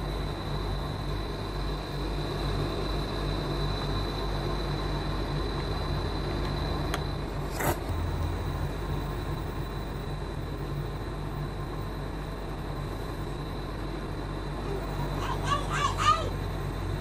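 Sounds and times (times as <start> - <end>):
cooktop hum: 0.0 - 17.0
high-pitched whine: 0.0 - 17.0.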